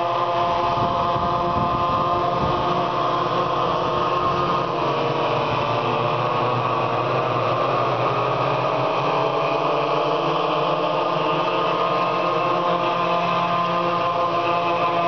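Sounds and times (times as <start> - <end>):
small engines whining at high revs: 0.0 - 15.0.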